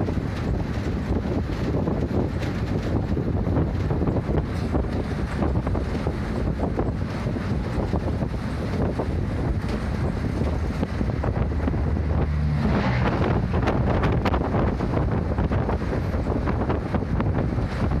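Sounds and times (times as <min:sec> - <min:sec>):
rattles and knocks: 0:00.0 - 0:16.5
bus engine hum: 0:00.0 - 0:18.0
rushing wind noise: 0:00.0 - 0:18.0.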